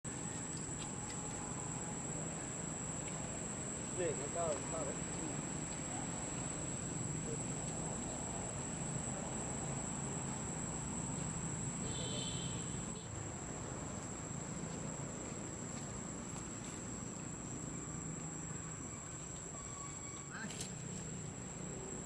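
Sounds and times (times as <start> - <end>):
insects droning: 0.1 - 22.0.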